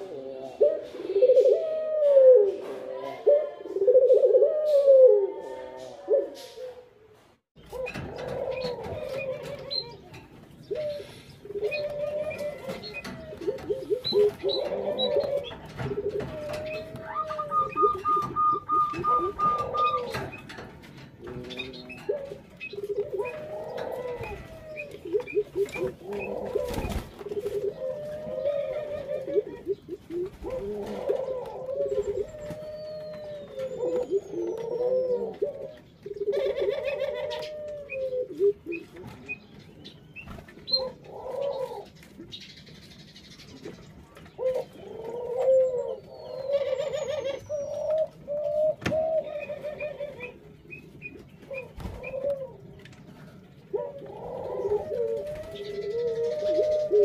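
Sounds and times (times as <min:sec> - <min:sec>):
doves cooing: 0:00.0 - 0:57.0
small birds chirping: 0:07.6 - 0:57.0.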